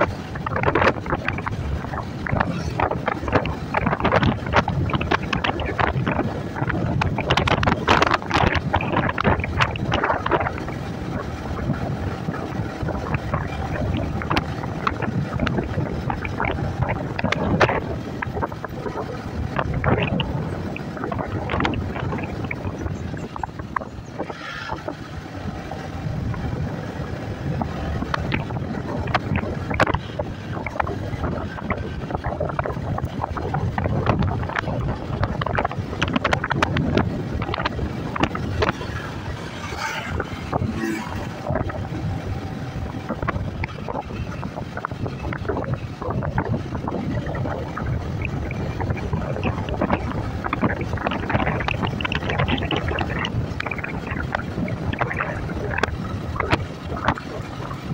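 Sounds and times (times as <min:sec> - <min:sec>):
motorcycle engine: 0:00.0 - 0:57.9
wind buffeting microphone: 0:00.0 - 0:57.9.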